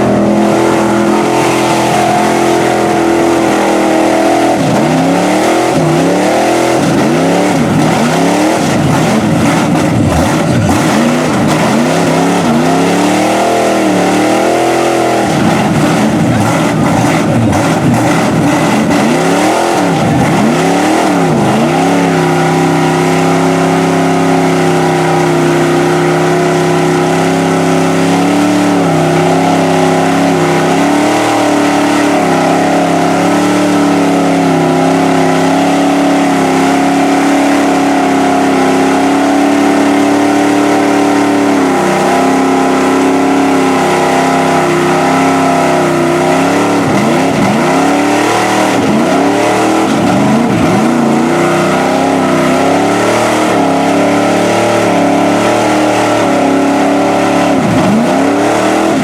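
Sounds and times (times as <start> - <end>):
truck engine revving high: 0.0 - 59.0.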